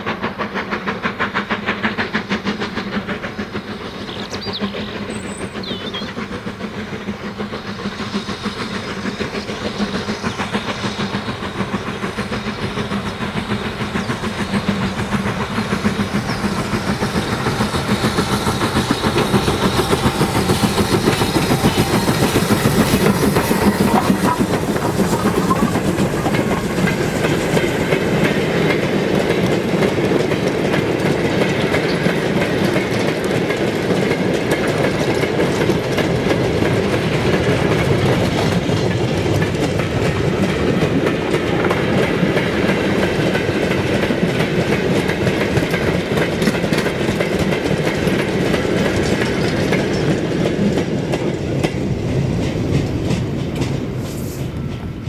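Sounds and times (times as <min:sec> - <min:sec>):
train wheels clattering over joints: 0:00.0 - 0:55.0.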